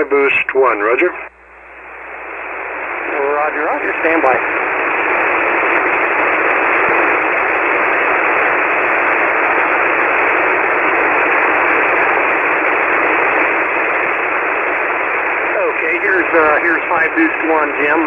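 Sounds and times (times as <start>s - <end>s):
radio receiver static hiss: 0.0s - 18.0s.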